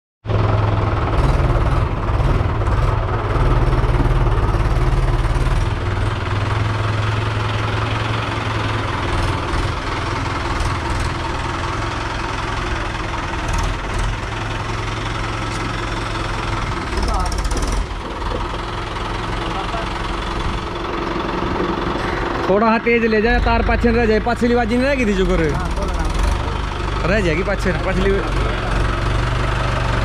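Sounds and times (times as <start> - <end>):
tractor diesel engine running: 0.2 - 30.0.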